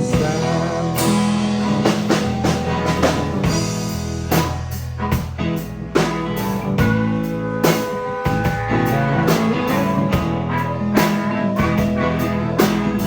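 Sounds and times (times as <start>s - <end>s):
bass: 0.0s - 13.0s
electric guitar: 0.0s - 13.0s
steady drum beat: 0.0s - 13.0s.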